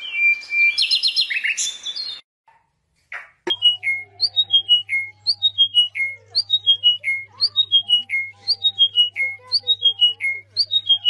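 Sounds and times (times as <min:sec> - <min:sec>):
bird singing whistled notes: 0:00.0 - 0:02.2, 0:03.5 - 0:11.0.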